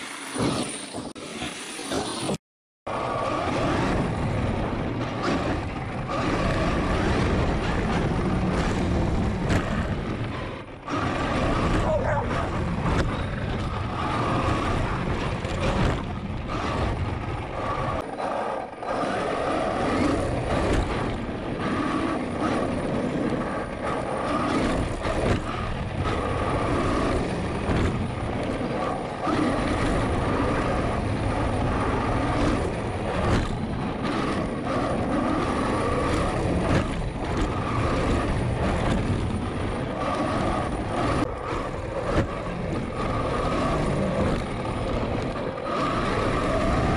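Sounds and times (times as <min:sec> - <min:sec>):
rc truck motor whining: 0:00.0 - 0:46.9
tyres and drivetrain rumbling: 0:00.0 - 0:46.9.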